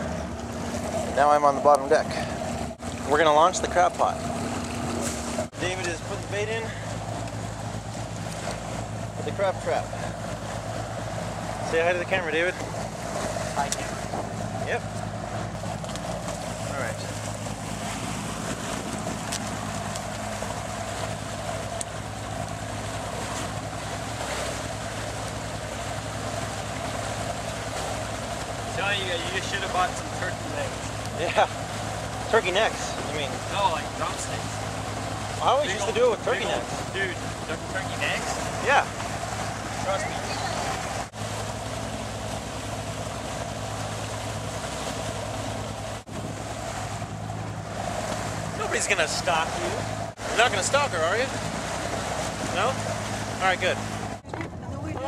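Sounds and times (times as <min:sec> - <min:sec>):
boat engines droning: 0:00.0 - 0:55.0
water rushing along hull: 0:00.0 - 0:55.0.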